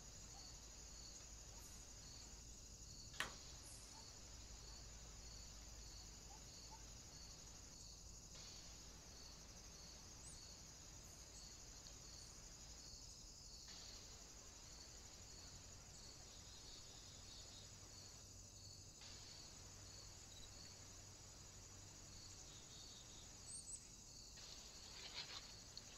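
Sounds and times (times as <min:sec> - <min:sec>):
insect chorus trilling: 0:00.0 - 0:25.9.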